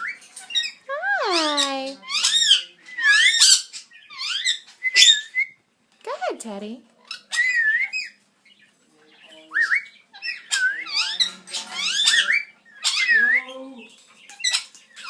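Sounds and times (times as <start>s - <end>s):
parrots whistling and squawking: 0.0s - 5.6s, 7.0s - 8.6s, 9.2s - 15.0s.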